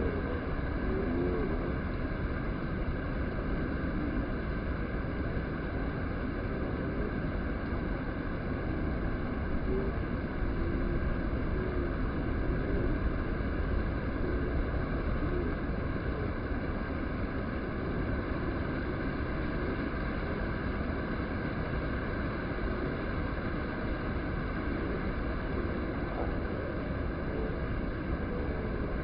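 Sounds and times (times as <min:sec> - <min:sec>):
low rumbling noise: 0:00.0 - 0:29.0.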